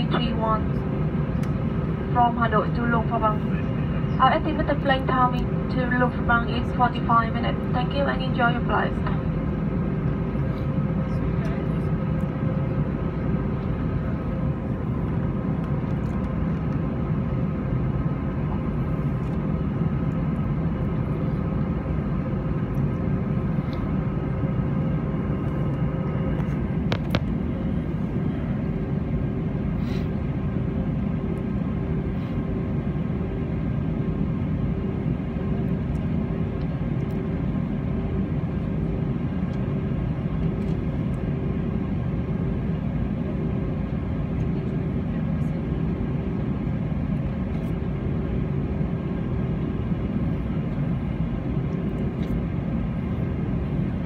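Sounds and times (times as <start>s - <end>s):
airplane cabin rumble and hum: 0.0s - 54.0s.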